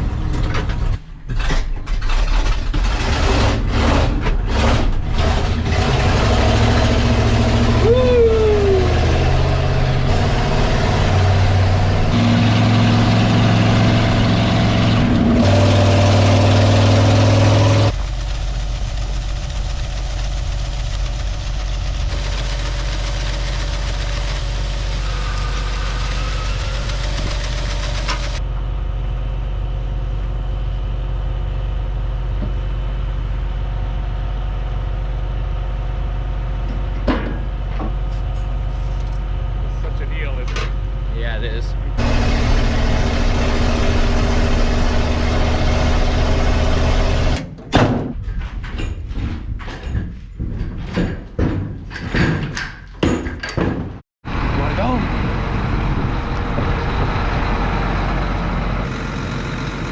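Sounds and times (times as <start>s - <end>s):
farm vehicle engine running: 2.1s - 47.4s, 54.3s - 59.9s.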